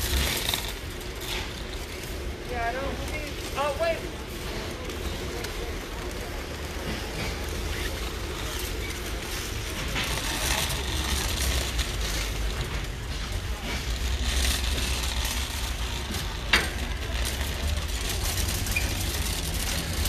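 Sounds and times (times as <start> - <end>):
shopping cart rolling on concrete: 0.0 - 20.0.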